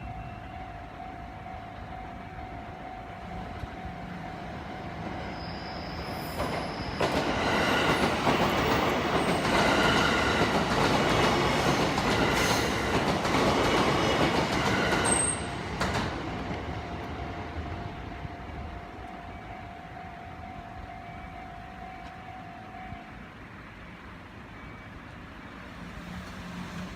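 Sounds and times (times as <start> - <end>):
crossing alarm warning tone: 0.0 - 25.8
electric train passing: 0.0 - 26.9.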